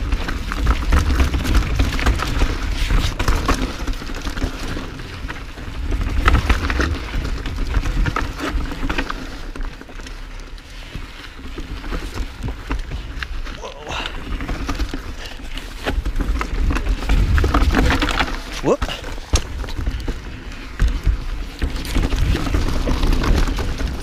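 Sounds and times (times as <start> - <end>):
bike rattling over bumps: 0.0 - 24.0
bike tyres crackling over dirt: 0.0 - 24.0.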